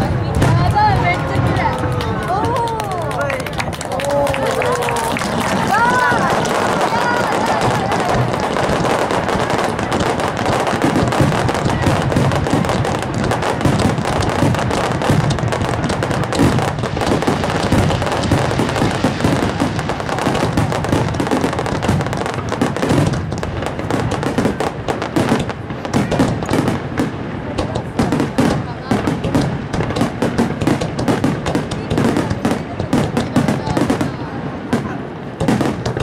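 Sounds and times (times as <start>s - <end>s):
fireworks shells bursting with crackling: 0.0s - 36.0s.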